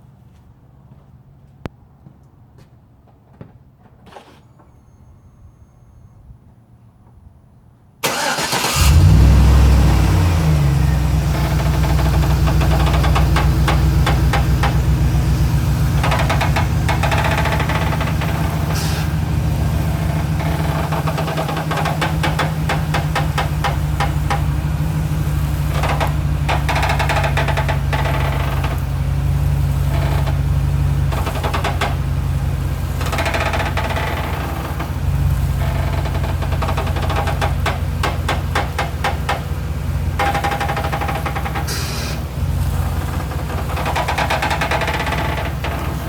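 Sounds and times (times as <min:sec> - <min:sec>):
engine idling: 0:08.0 - 0:46.0
suspension creaking clicks: 0:08.0 - 0:46.0.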